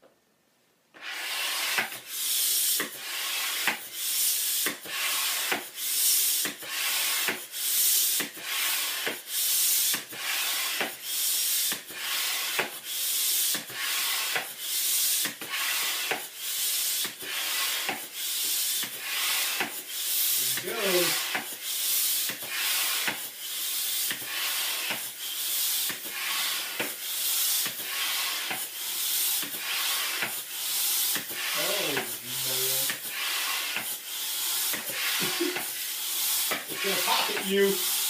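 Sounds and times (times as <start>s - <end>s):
hand air pump hissing: 1.0s - 38.0s.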